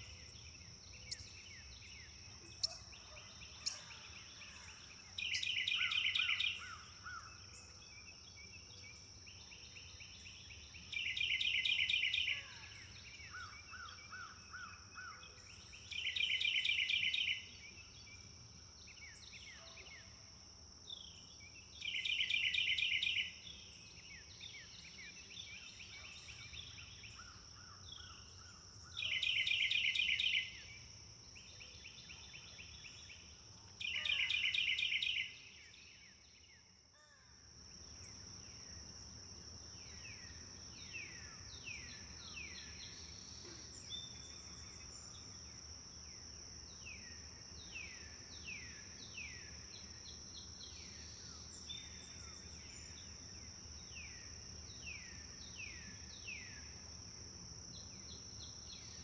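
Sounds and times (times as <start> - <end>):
birds chirping softly: 0.0 - 59.0.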